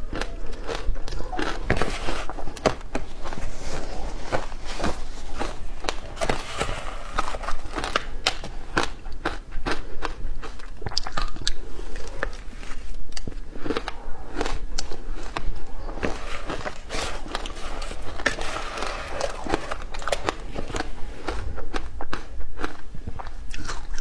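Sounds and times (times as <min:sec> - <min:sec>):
ice crunching while chewed: 0:00.0 - 0:24.0.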